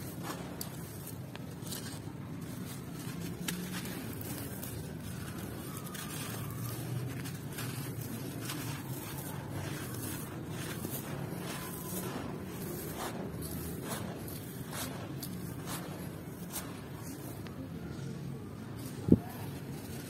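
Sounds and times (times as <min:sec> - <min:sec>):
sand crumbling and pouring through hands: 0:00.0 - 0:20.0.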